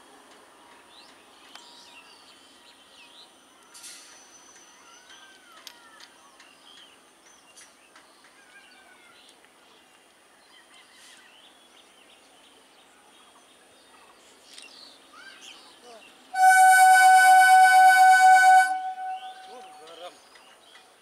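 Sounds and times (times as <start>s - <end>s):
faint steady background noise: 0.0s - 21.0s.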